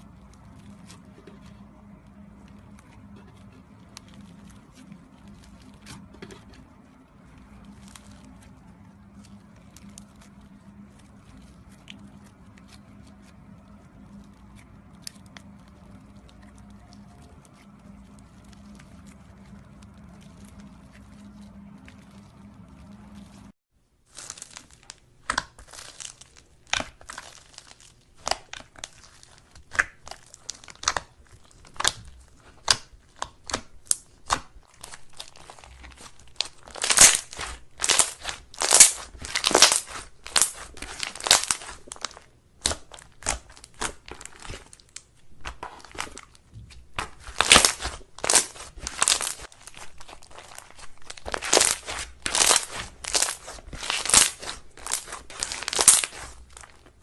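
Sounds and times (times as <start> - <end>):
slime crackling and popping: 0.0 - 57.0.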